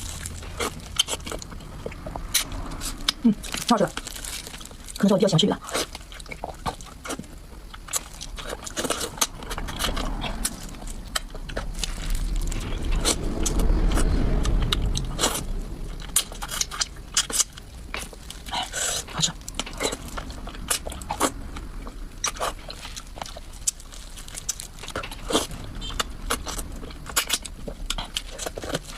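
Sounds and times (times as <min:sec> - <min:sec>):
person chewing food: 0:00.0 - 0:05.0, 0:05.6 - 0:28.9
low muffled rumble: 0:00.0 - 0:28.9.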